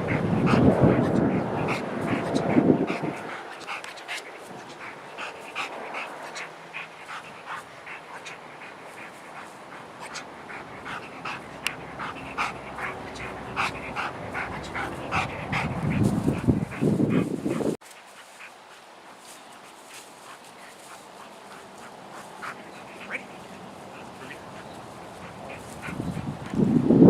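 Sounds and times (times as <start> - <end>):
dog panting: 0.0 - 26.8.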